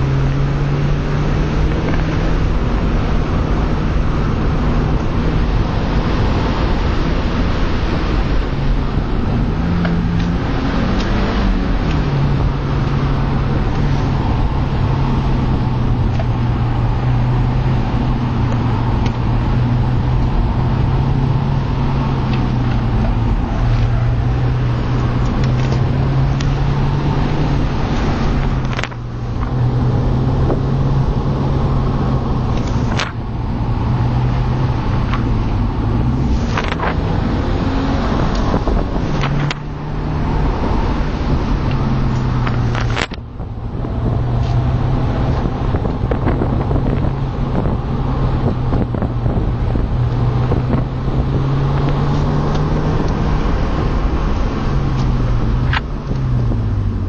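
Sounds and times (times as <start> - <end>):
car engine running: 0.0 - 57.0
road and wind noise: 0.0 - 57.0.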